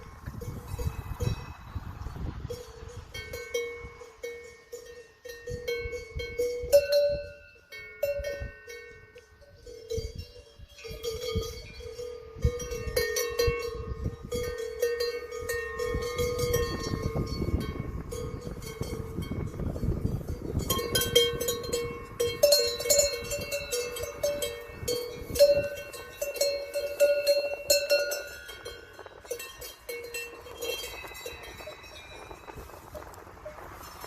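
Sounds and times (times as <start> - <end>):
cowbells clanking: 0.0 - 34.0.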